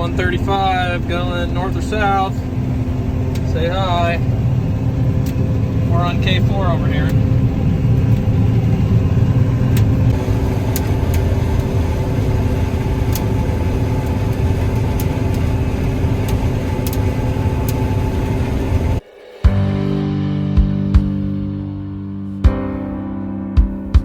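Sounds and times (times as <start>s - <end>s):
combine harvester engine rumble: 0.0s - 20.5s
steady machine hums: 0.0s - 22.6s.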